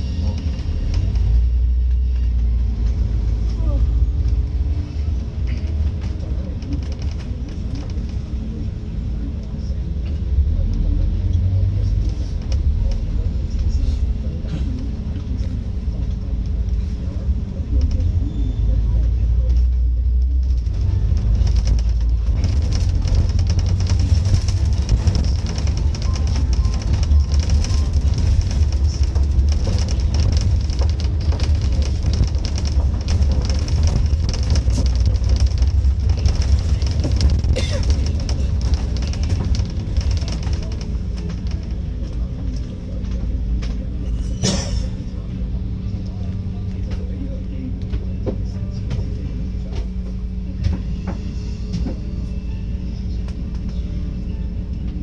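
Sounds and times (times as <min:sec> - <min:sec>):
bus body rattling and clicking: 0:00.0 - 0:55.0
bus engine rumbling: 0:00.0 - 0:55.0.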